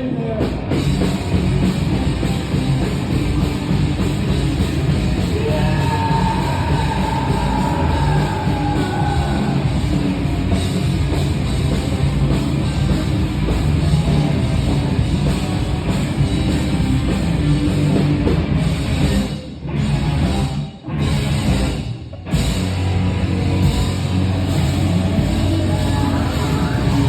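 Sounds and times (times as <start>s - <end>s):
heavy guitar: 0.0s - 27.0s
punk rock band playing live: 0.0s - 27.0s
drum kit: 0.3s - 27.0s.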